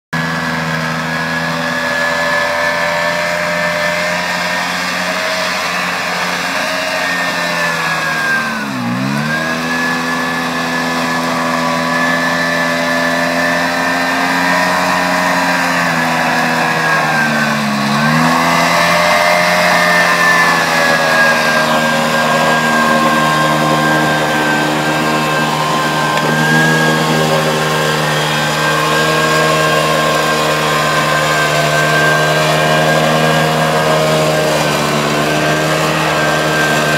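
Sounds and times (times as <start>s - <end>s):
tracked vehicle engine running: 0.0s - 36.9s.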